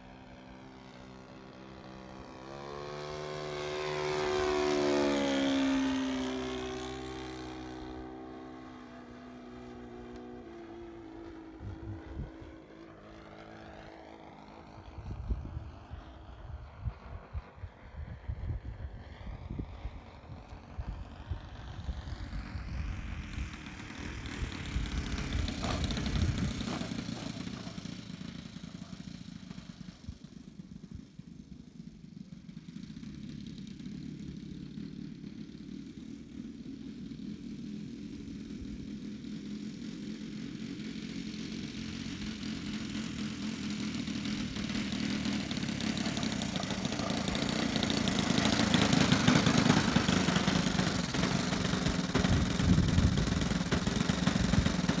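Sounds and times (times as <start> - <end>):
model plane engine running: 0.0 - 55.0.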